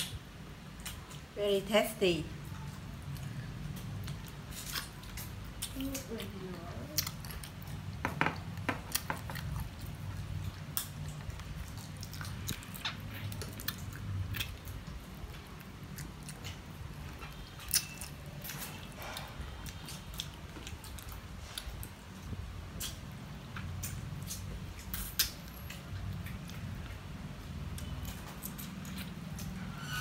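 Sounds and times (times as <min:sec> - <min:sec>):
low steady hum: 0:00.0 - 0:30.0
person chewing and biting: 0:02.6 - 0:06.1, 0:06.9 - 0:29.8.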